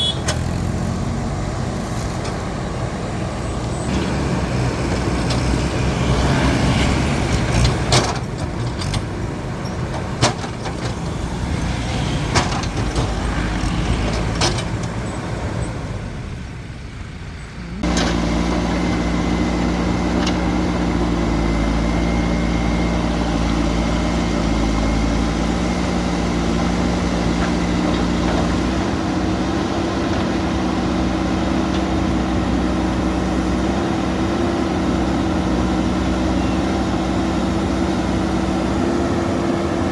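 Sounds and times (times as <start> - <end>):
heavy diesel machinery: 0.0 - 39.9
road traffic: 0.0 - 39.9.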